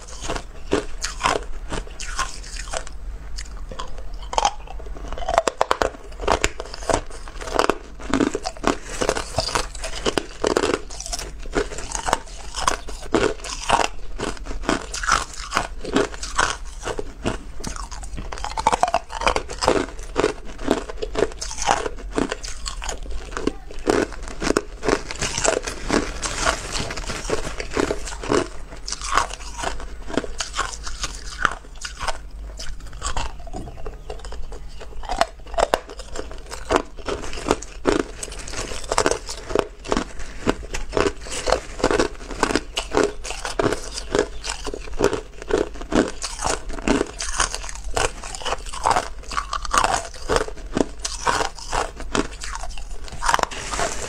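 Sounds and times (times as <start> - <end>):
person crunching ice: 0.0 - 54.0.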